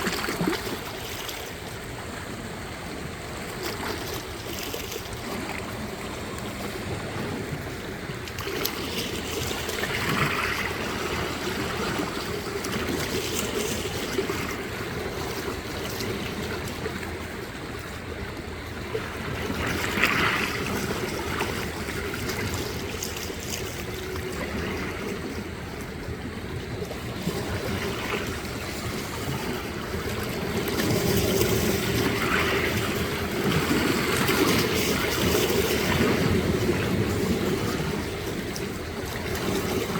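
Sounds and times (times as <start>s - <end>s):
small waves lapping shore: 0.0s - 39.9s
wave splashes: 0.0s - 39.9s.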